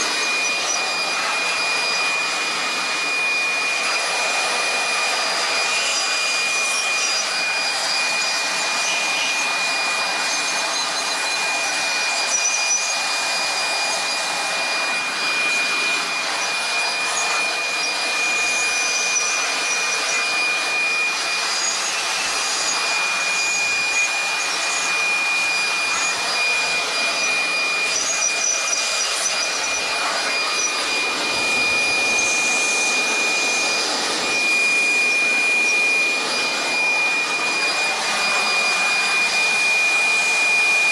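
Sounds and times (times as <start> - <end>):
electric leaf blower running: 0.0 - 40.9.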